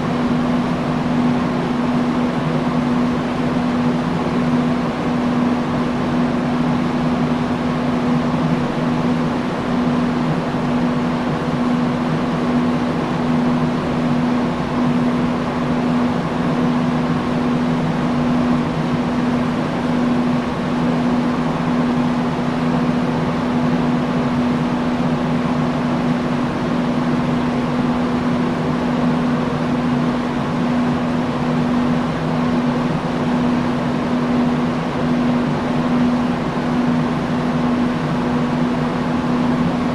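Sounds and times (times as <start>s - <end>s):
industrial fan running: 0.0s - 39.9s.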